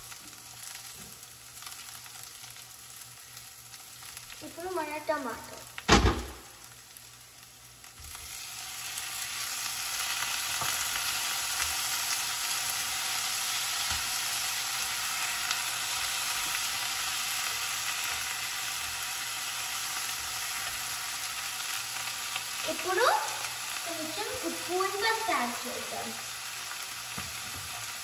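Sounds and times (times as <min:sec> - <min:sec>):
vegetables sizzling in a pan: 0:00.0 - 0:28.0.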